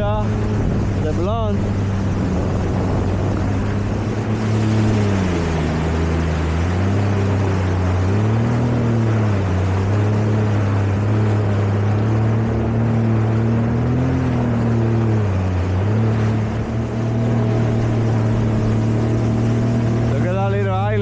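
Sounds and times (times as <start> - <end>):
jet ski engine running: 0.0 - 21.0
steady rushing noise: 0.0 - 21.0.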